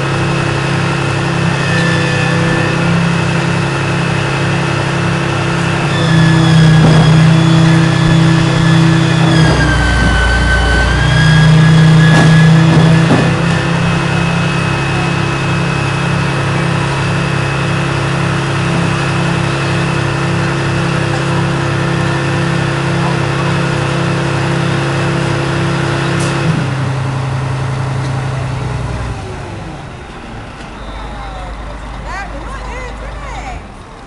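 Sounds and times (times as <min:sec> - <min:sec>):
fire engine diesel engine running: 0:00.0 - 0:34.0.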